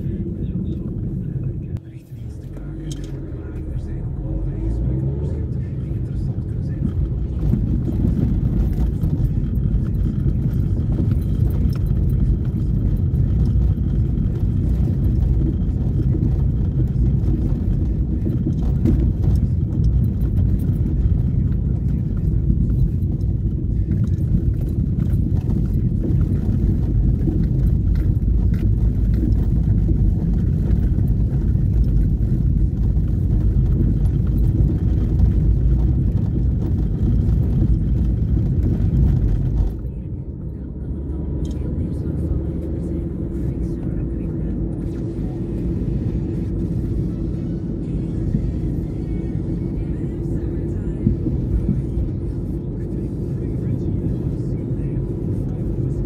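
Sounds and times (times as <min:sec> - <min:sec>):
tyres rumbling on cobblestones: 0:00.0 - 0:56.0.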